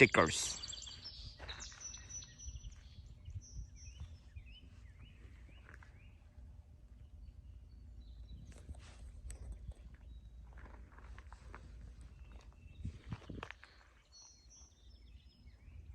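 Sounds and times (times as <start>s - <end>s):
low outdoor rumble: 0.0s - 15.9s
small birds chirping: 0.0s - 15.9s.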